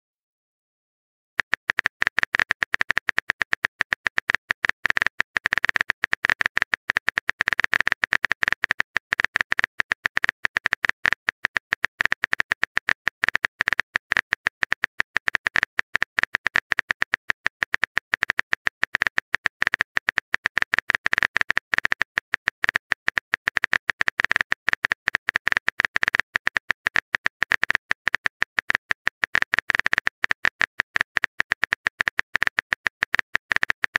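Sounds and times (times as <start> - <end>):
phone keyboard typing clicks: 1.4 - 33.9.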